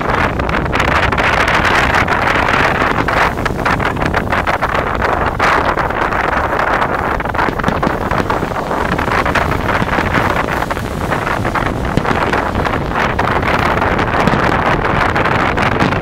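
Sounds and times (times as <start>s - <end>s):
fireworks bangs and crackle: 0.0s - 16.0s
wind buffeting microphone: 0.0s - 16.0s.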